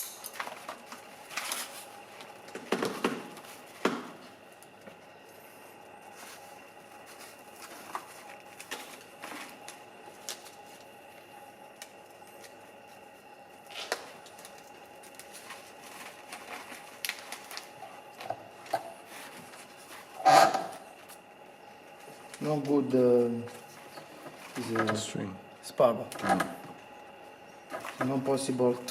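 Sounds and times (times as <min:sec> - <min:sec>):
faint hum: 0:00.0 - 0:28.9.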